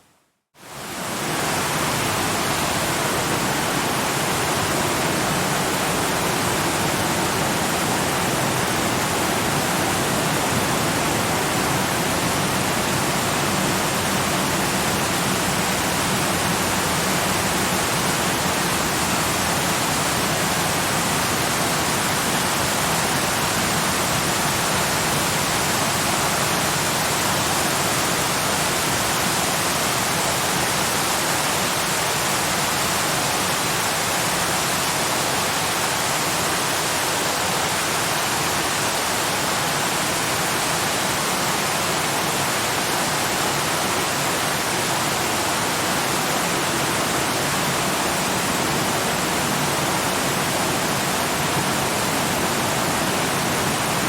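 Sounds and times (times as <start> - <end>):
waterfall rushing: 0.6 - 54.0.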